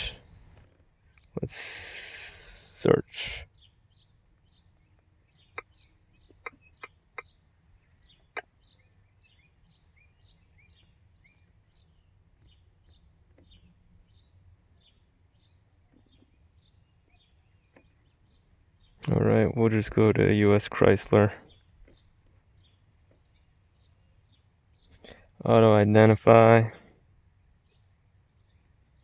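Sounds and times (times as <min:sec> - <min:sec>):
bird chirping: 0:00.0 - 0:29.0.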